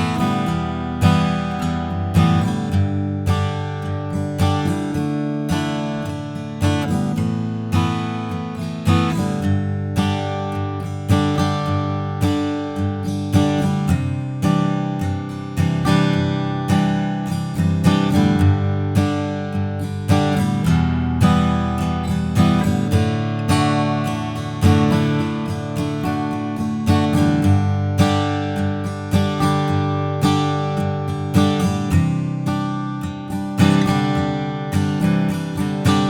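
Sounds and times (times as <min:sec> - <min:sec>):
acoustic guitar strummed: 0:00.0 - 0:36.0.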